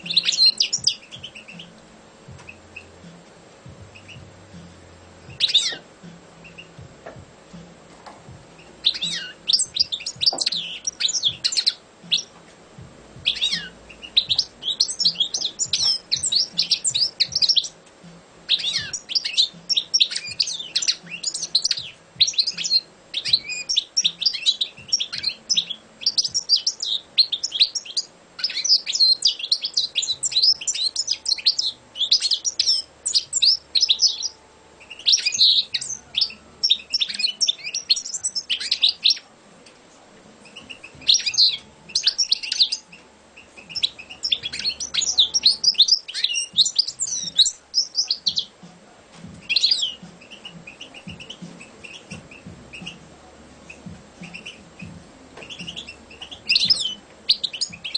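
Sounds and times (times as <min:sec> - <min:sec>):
goldfinch twittering song: 0:00.0 - 0:07.2, 0:08.5 - 0:17.9, 0:18.5 - 0:39.3, 0:40.4 - 0:48.6, 0:49.4 - 0:53.1, 0:53.7 - 0:57.9.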